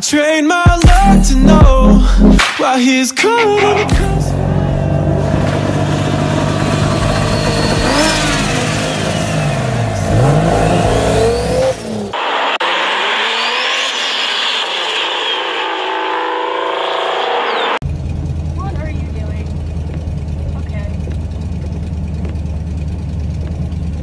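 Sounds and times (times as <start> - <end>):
car engine revving: 0.8 - 2.6, 3.4 - 24.0.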